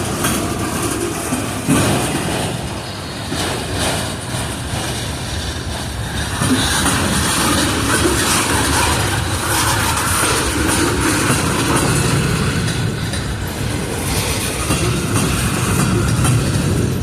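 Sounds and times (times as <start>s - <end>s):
train wheels rumbling on rails: 0.0s - 17.0s
wheels clacking: 0.0s - 17.0s.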